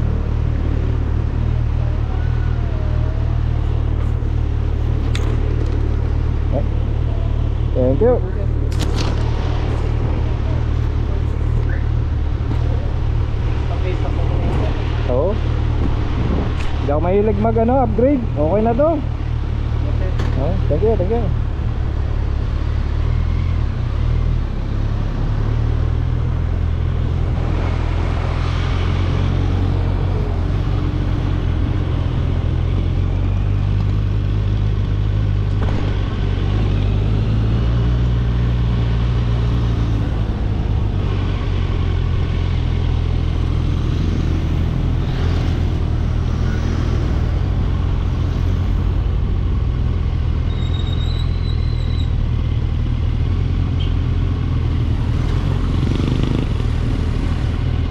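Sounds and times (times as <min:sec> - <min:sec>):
motorcycle engine rumbling: 0:00.0 - 0:57.9.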